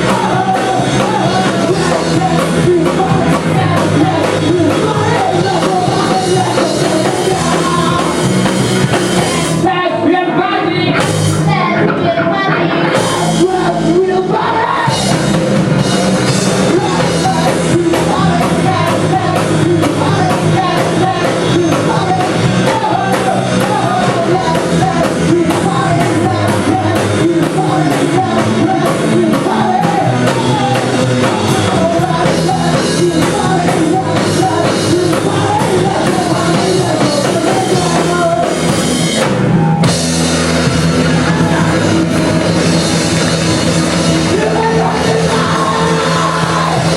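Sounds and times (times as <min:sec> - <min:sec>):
person singing: 0:00.0 - 0:40.0, 0:40.6 - 0:46.9
live rock band playing: 0:00.0 - 0:46.9.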